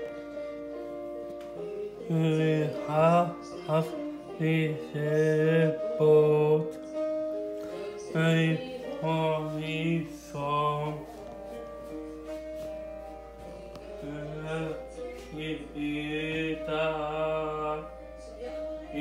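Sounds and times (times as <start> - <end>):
quiet steady accompaniment: 0.0 - 19.0
man singing slow melody: 1.6 - 12.0, 13.3 - 19.0.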